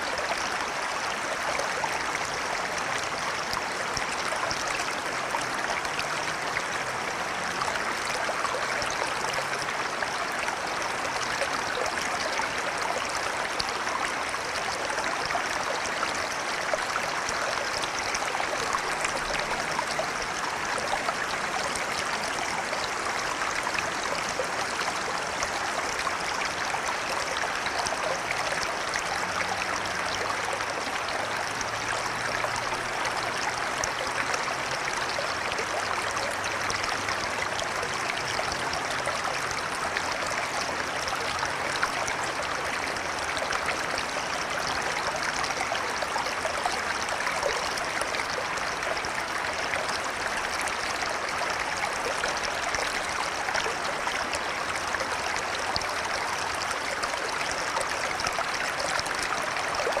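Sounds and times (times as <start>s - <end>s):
river water rushing and trickling: 0.0s - 60.0s.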